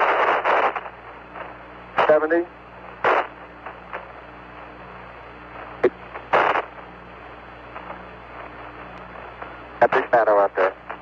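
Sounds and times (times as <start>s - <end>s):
radio hiss and low hum: 0.0s - 11.0s
static crackles: 0.0s - 11.0s.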